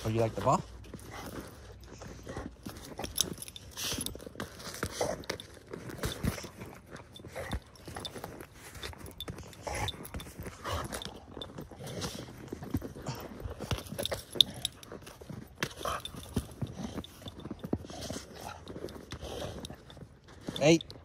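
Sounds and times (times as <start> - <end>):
puppy chewing a basketball: 0.1 - 21.0.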